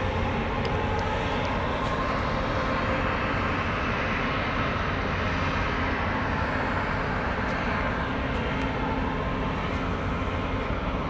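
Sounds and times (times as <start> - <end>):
ship engine drone: 0.0 - 11.0.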